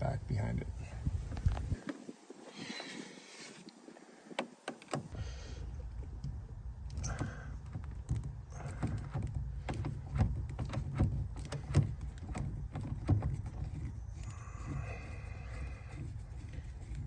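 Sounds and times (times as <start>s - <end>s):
low steady rumble: 0.0s - 1.8s, 5.1s - 17.0s.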